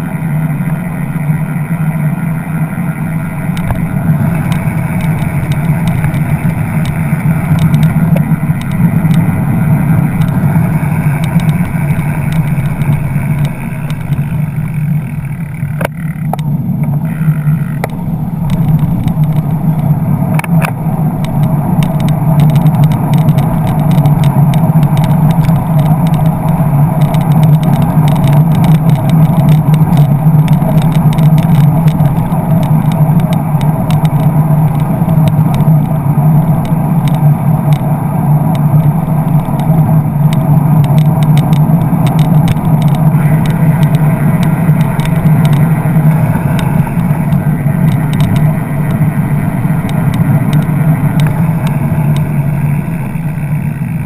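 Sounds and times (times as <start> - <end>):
bicycle clicks and rattles: 0.0 - 54.0
road and wind rumble: 0.0 - 54.0.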